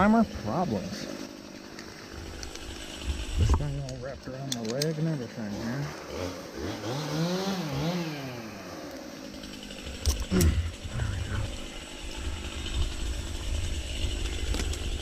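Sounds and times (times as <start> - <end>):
chainsaw starting and idling: 0.0 - 15.0.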